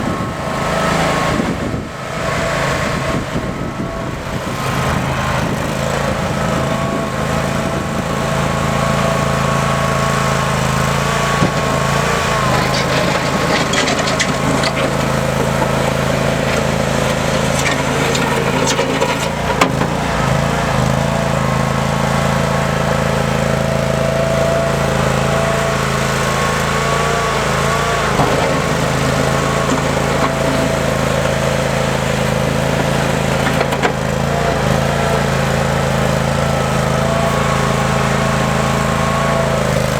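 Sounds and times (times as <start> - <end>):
loader engine running: 0.0 - 39.9.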